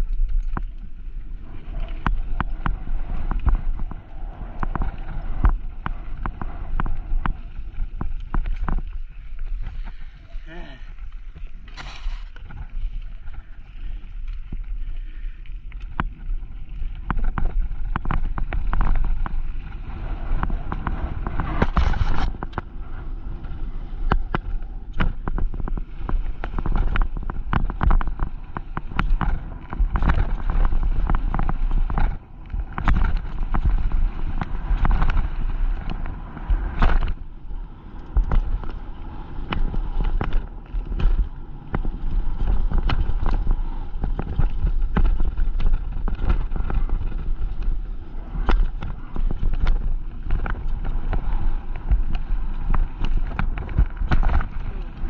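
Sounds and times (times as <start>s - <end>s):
bike rattling over rocks: 0.0s - 55.0s
wind buffeting microphone: 0.0s - 55.0s.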